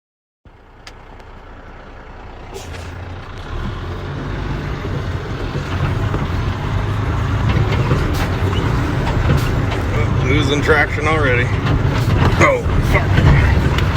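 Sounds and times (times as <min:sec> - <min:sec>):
diesel truck engine under load: 0:00.5 - 0:13.9.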